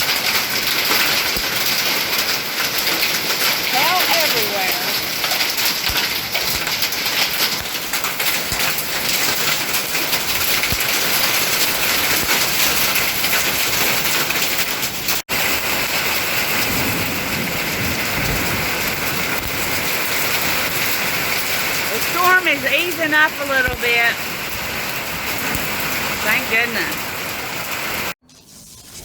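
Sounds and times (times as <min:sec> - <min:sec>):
heavy rain and hail: 0:00.0 - 0:28.2.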